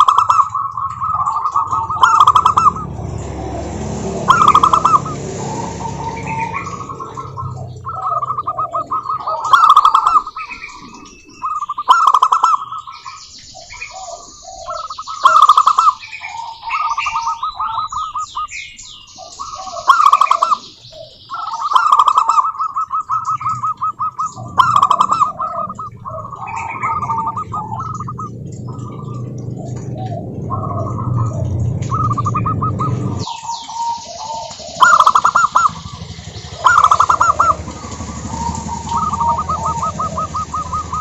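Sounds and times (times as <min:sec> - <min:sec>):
high-pitched bird chirps: 0:00.0 - 0:03.3, 0:04.2 - 0:41.0
doves cooing: 0:00.0 - 0:41.0.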